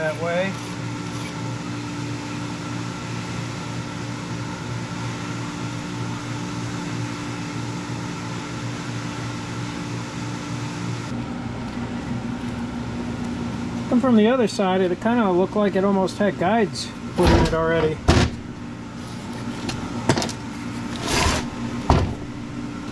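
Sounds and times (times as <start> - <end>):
machine hum with airy rush: 0.0 - 22.9.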